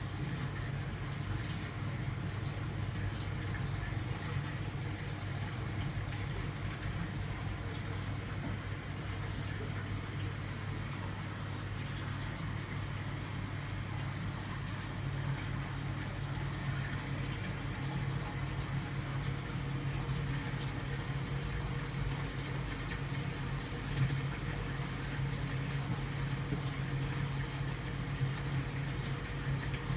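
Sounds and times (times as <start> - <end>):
aquarium pump humming: 0.0 - 29.9.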